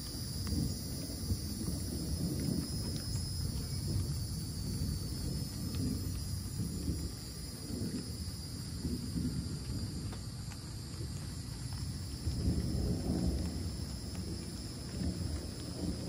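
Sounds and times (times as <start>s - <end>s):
distant thunder rumbling: 0.0s - 16.0s.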